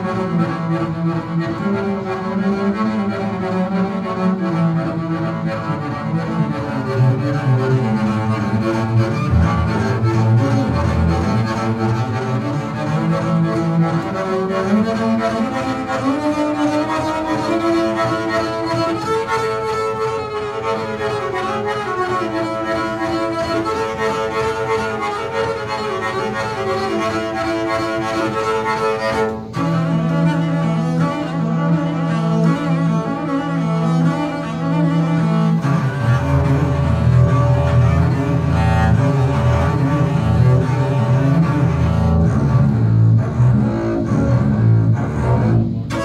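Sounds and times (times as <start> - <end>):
bowed double bass melody: 0.0 - 46.0.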